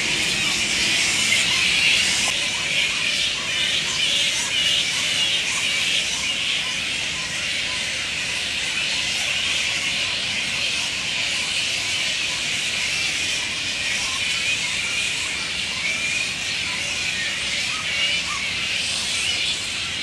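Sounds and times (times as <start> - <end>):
flying foxes squealing: 0.0 - 20.0.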